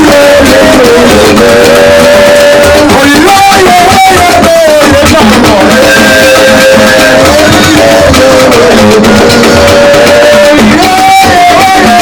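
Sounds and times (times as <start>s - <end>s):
loud melody with held notes: 0.0s - 12.0s.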